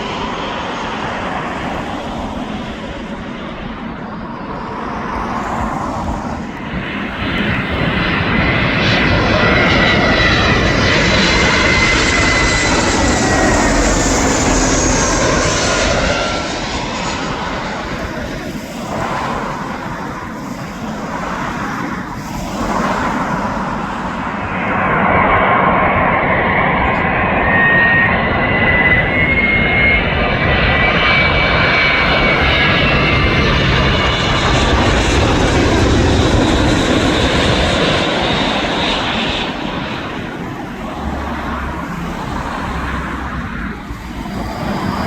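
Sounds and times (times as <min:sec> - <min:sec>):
jet airliner passing overhead: 0:00.0 - 0:45.0
jet engine whine: 0:00.0 - 0:45.0.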